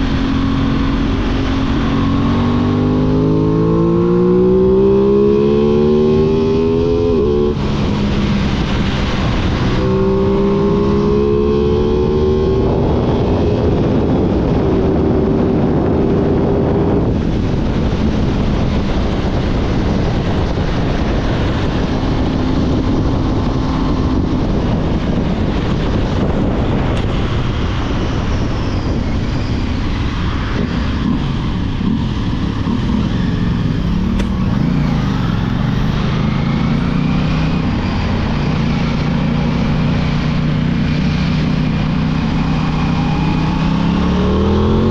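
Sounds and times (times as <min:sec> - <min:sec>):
loud rushing noise: 0:00.0 - 0:44.9
motorcycle engine running: 0:00.0 - 0:44.9.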